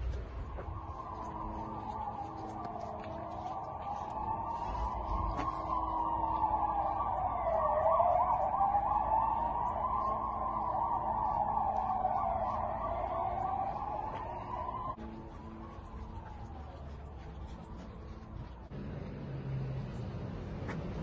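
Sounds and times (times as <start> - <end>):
electronic siren wailing: 0.0 - 18.0.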